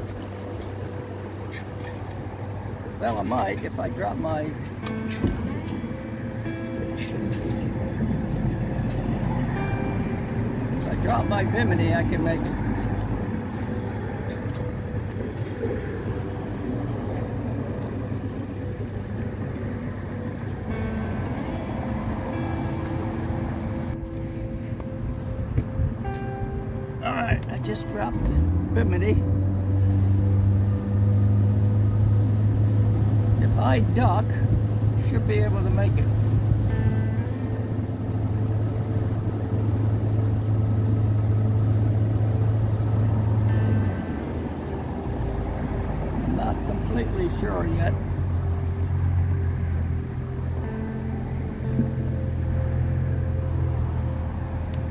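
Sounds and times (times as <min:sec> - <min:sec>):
boat motor humming: 0:00.0 - 0:54.9
faint water and air noise: 0:00.0 - 0:54.9
wind: 0:00.0 - 0:54.9.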